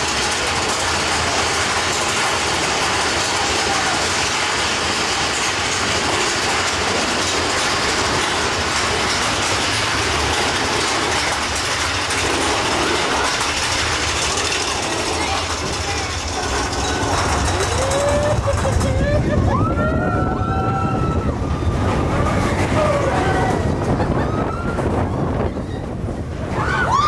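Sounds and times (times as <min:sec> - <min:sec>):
roller coaster cars on track: 0:00.0 - 0:27.0.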